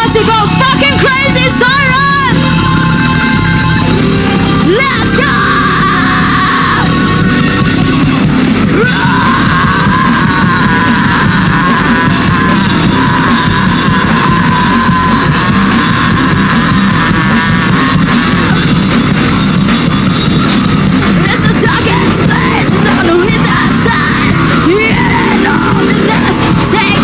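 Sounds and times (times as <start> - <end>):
drum kit: 0.0 - 27.0
electric guitar: 0.0 - 27.0.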